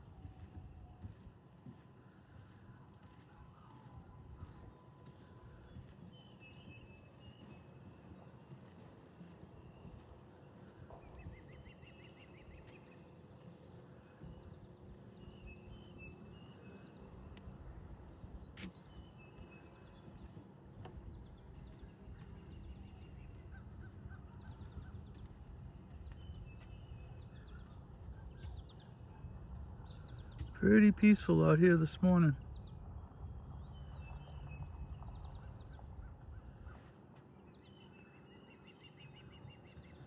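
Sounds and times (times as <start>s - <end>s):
bird calls and chirps: 2.0s - 40.0s.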